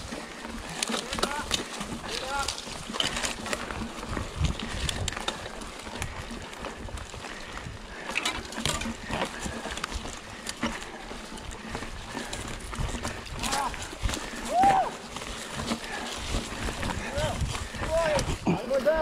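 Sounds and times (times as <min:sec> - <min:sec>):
bike rattling over bumps: 0:00.0 - 0:19.0
bike tyres on dirt: 0:00.0 - 0:19.0.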